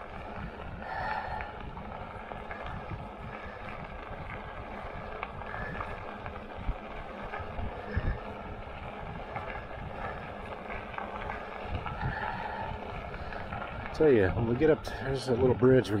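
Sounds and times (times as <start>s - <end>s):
wind on microphone: 0.0s - 15.7s
low bumps: 0.0s - 16.0s.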